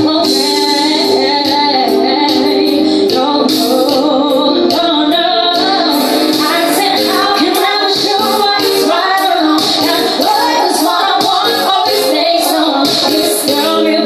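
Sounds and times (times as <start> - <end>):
live band playing pop song: 0.0 - 14.0
woman singing into a microphone: 0.0 - 14.0.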